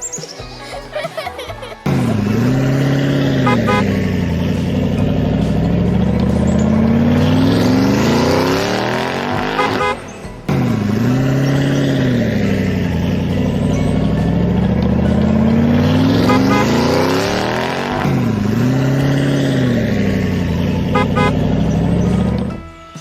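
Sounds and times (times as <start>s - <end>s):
tractor engine revving: 1.7s - 22.7s.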